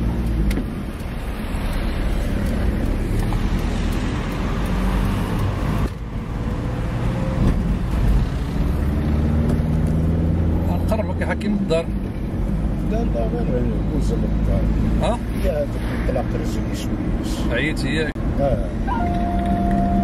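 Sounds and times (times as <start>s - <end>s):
car engine humming: 0.0s - 20.0s
road noise: 0.0s - 20.0s.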